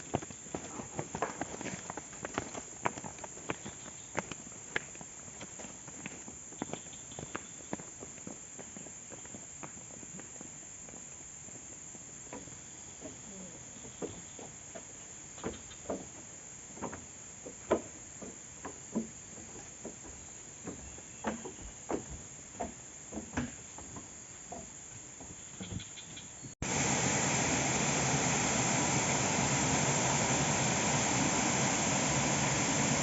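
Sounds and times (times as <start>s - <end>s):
insects chorus: 0.0s - 33.0s.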